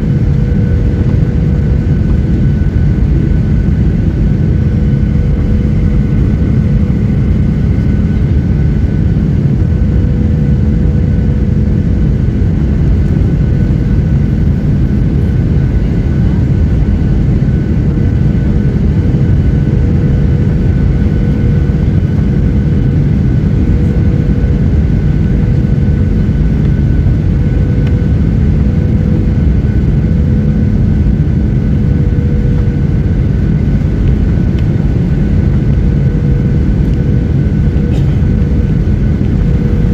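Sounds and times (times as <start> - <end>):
airplane cabin roar: 0.0 - 39.9
thin steady engine whines: 0.0 - 39.9.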